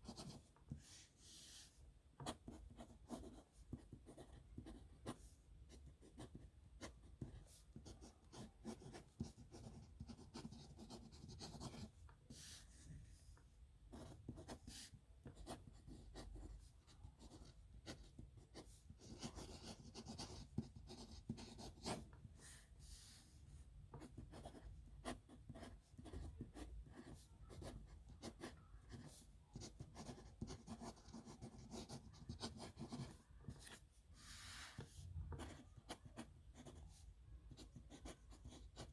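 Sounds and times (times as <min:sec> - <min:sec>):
pen scratching on paper: 0:00.0 - 0:01.6, 0:02.2 - 0:12.6, 0:13.9 - 0:22.2, 0:23.9 - 0:33.8, 0:35.3 - 0:38.9.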